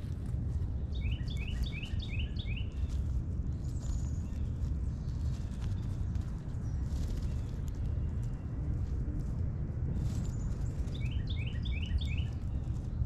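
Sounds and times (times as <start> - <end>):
songbird singing repeated notes: 0.0 - 8.7, 9.9 - 13.0
steady low rumble: 0.0 - 13.0.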